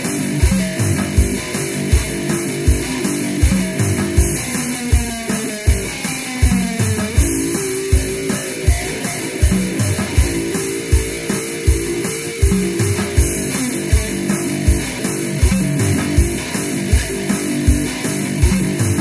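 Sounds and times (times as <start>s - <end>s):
slide guitar notes: 0.0s - 19.0s
steady drum beat: 0.0s - 19.0s.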